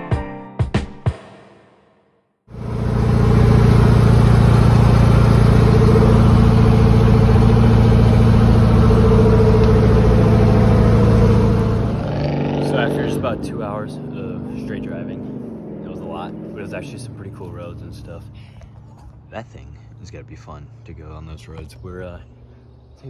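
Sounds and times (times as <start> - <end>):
car engine and road noise: 2.5 - 23.0
low hum: 2.5 - 23.0.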